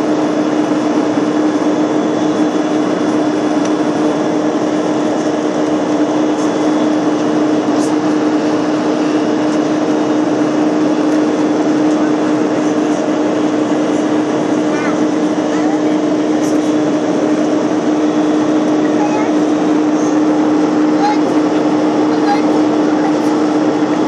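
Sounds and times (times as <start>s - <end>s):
airliner cabin noise: 0.0s - 24.0s.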